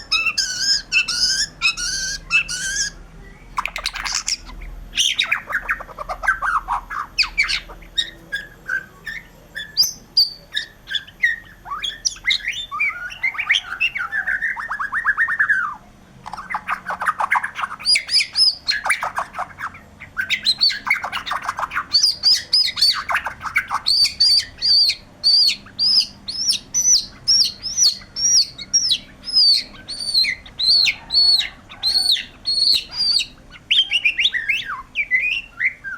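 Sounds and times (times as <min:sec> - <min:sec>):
bird singing varied song: 0:00.0 - 0:35.9.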